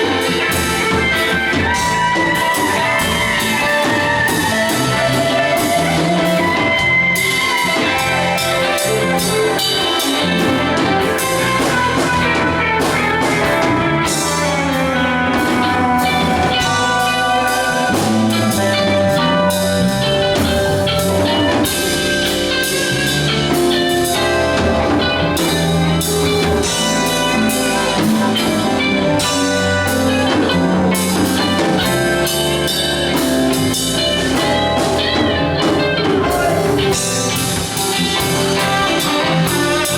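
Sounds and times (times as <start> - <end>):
bass: 0.0 - 39.9
drum kit: 0.0 - 39.9
electric guitar lead lines: 0.0 - 39.9.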